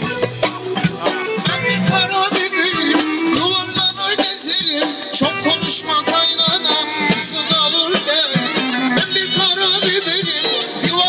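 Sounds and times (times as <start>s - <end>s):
drum kit beat: 0.0s - 11.0s
live band playing: 0.0s - 11.0s.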